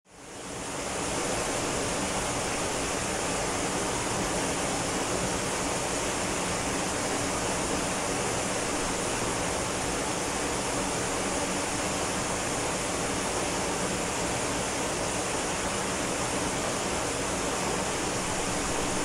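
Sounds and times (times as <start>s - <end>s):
waterfall rushing: 0.5s - 19.0s.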